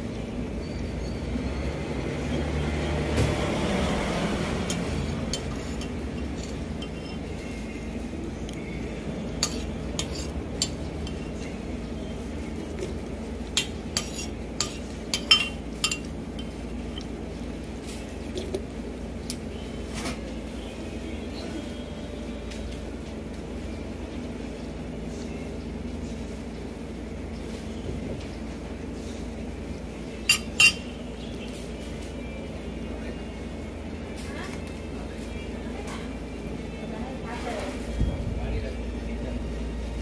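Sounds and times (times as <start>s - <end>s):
street traffic noise: 0.0s - 40.0s.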